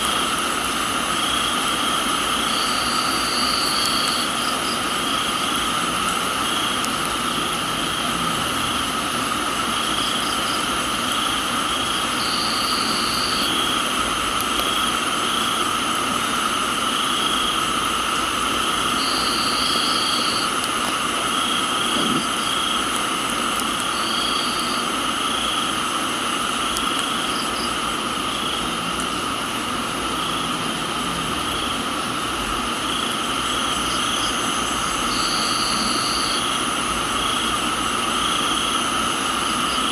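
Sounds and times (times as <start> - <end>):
crickets and insects trilling: 0.0 - 39.9
rain hiss: 0.0 - 39.9.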